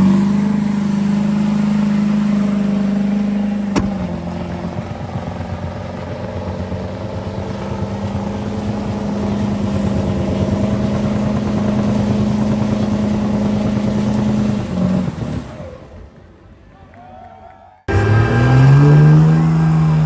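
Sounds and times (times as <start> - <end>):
engine revving during burnout: 0.0 - 15.8, 17.9 - 20.0.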